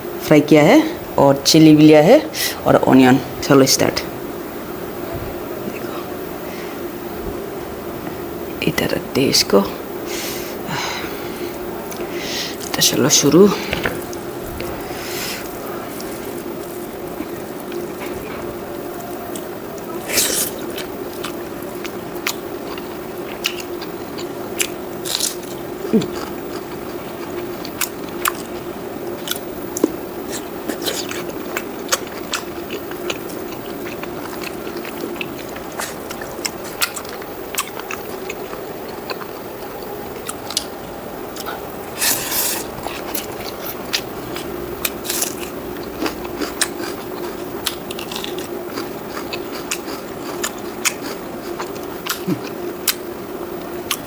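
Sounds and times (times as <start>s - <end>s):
crunching and chewing food: 10.3s - 54.0s.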